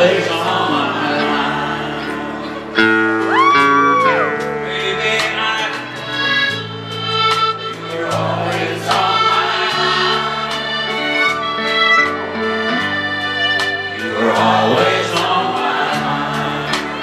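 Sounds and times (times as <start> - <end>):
country band playing: 0.0 - 17.0
people singing: 0.0 - 17.0.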